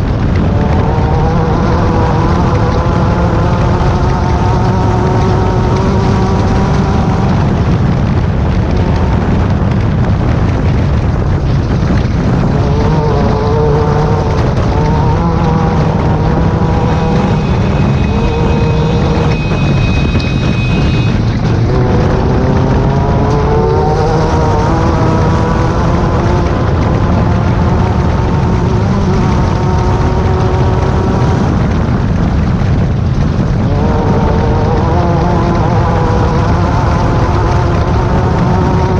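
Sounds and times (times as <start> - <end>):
race car engine revving: 0.0 - 38.9
steady high whine: 0.0 - 38.9.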